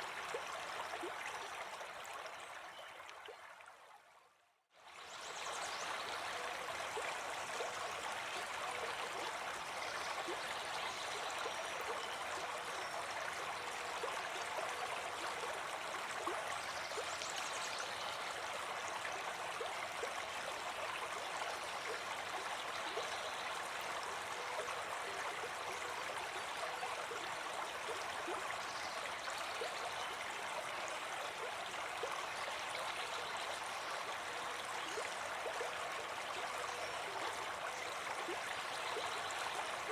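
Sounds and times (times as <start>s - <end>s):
river water flowing: 0.0s - 4.0s, 4.8s - 39.9s.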